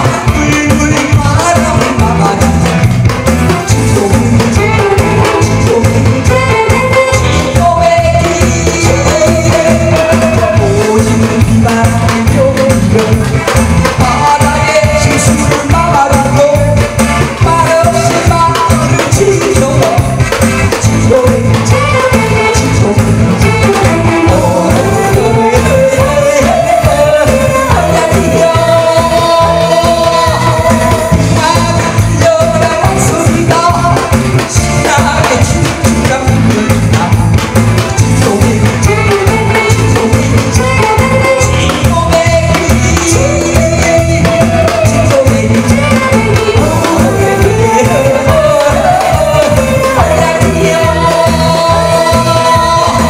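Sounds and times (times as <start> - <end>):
backing music with steady beat: 0.0 - 53.0
man singing into a microphone: 0.0 - 53.0.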